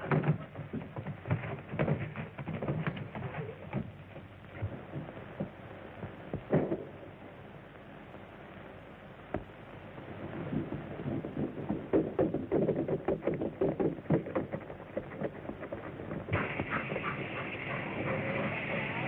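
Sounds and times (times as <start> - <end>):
rapid thumps and knocks: 0.0 - 7.0, 10.2 - 19.0.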